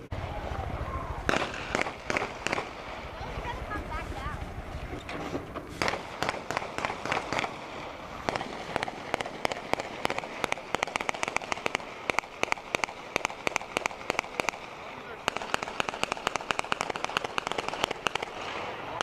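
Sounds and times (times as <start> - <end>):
gunshots cracking: 1.3 - 3.6, 5.7 - 19.0.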